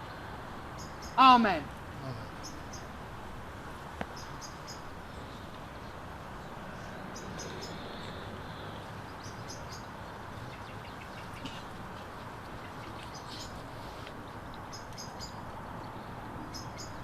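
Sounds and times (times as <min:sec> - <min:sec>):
bird chirping: 0:00.8 - 0:01.4, 0:02.0 - 0:02.9, 0:04.1 - 0:08.2, 0:09.0 - 0:17.0.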